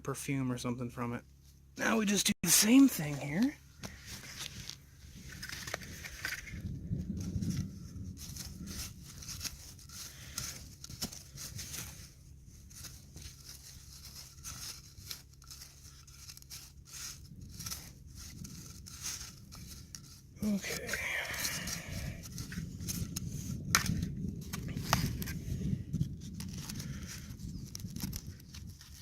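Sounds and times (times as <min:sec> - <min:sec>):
low steady rumble: 0:00.0 - 0:29.0
hands rustling in potting soil: 0:01.3 - 0:29.0.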